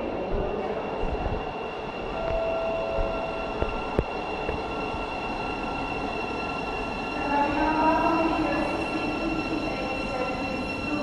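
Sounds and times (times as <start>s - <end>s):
train rumbling: 0.0s - 11.0s
train whine: 0.0s - 11.0s.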